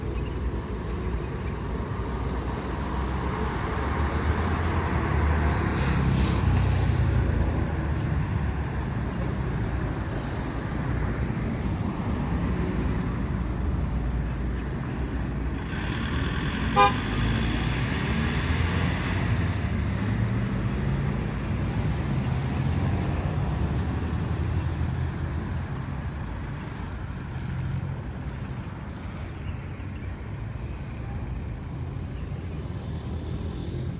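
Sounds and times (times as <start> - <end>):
cars passing: 0.4 - 33.9.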